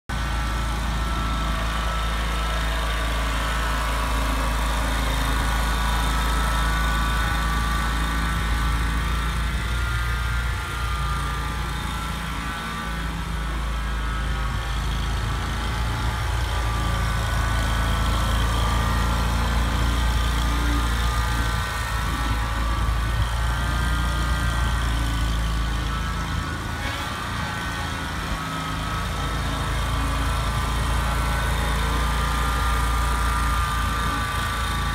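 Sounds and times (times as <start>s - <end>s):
riding mower engine humming: 0.1s - 34.9s.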